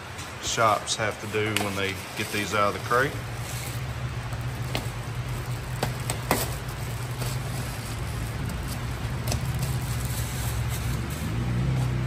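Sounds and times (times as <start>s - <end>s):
heavy rain pattering: 0.4s - 10.7s.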